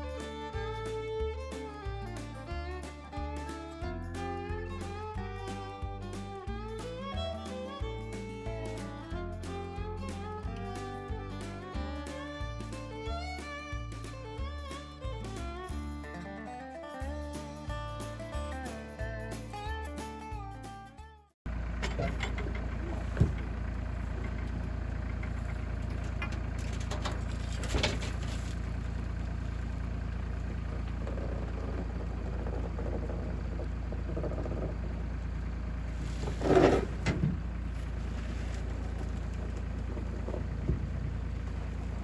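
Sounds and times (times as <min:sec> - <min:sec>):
engine idling rumble: 0:00.0 - 0:20.3, 0:21.5 - 0:42.0.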